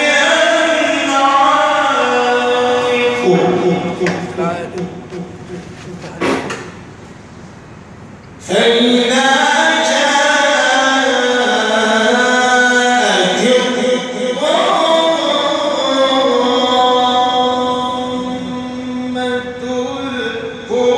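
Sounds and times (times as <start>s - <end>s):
man chanting melodically: 0.0s - 6.6s, 8.4s - 20.9s.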